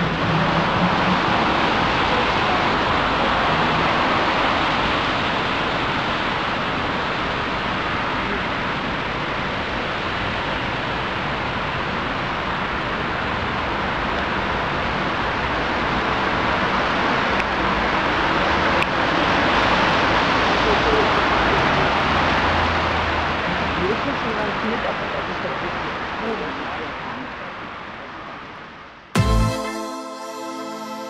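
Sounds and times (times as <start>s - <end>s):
city road traffic: 0.0s - 29.2s.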